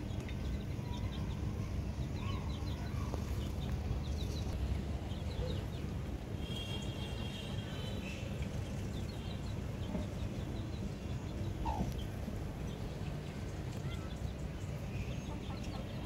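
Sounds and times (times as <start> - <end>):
continuous low rumble: 0.0 - 16.0
small birds chirping: 0.0 - 16.0.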